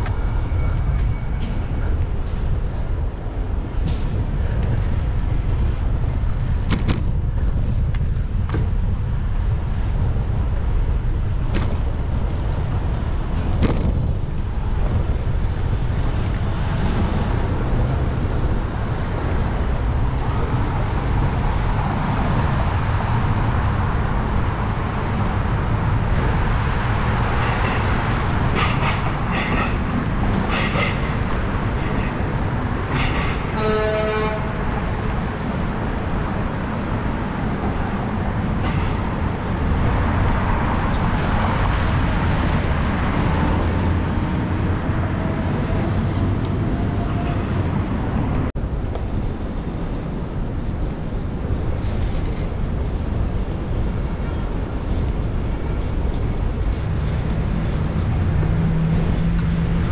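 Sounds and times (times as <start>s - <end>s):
traffic noise: 0.0s - 59.9s
wind rumbling on microphone: 0.0s - 59.9s.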